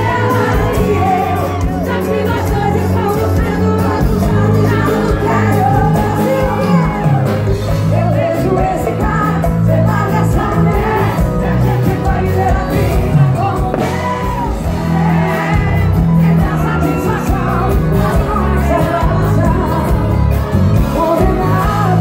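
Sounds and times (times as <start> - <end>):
bass: 0.0 - 22.0
drums: 0.0 - 22.0
women singing into microphones: 0.0 - 22.0.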